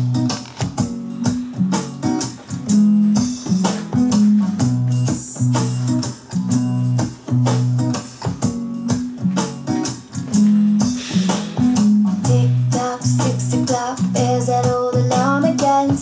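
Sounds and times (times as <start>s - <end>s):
song with guitar and beat: 0.0s - 16.0s.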